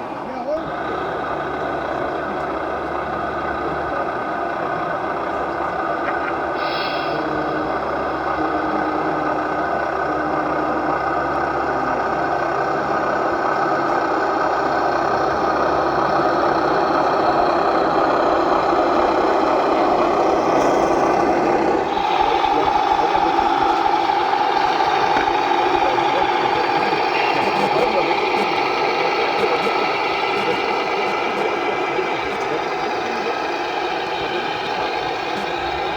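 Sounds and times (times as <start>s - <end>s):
model machine engine drone with rattle: 0.0s - 35.9s.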